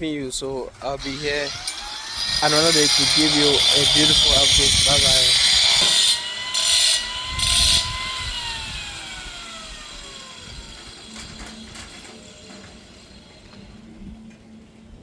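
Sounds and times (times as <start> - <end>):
power tool motor whining: 1.0 - 13.6.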